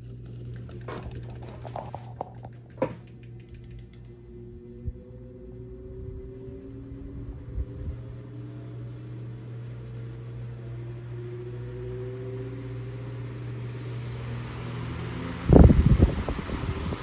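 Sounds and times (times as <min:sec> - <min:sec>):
electric fan motor hum: 0:00.0 - 0:17.0.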